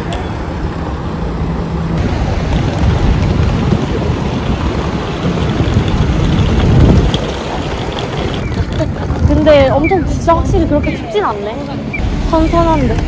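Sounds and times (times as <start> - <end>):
suitcase wheels rolling on asphalt: 0.5 - 13.0.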